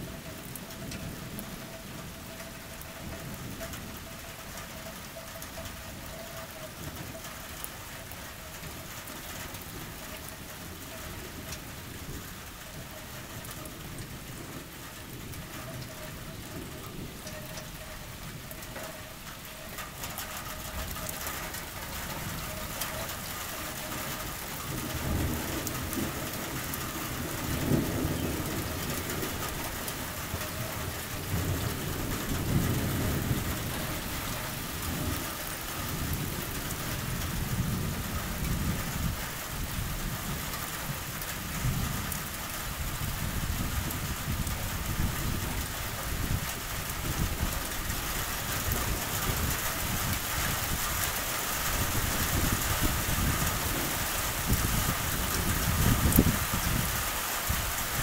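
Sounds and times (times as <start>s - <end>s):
steady rain falling: 0.0s - 58.0s
low thunder rumbling: 9.6s - 58.0s.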